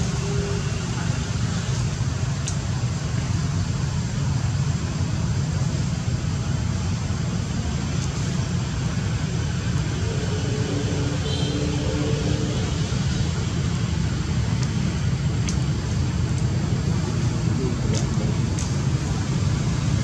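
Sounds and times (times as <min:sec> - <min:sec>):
low rumble with hiss: 0:00.0 - 0:20.0.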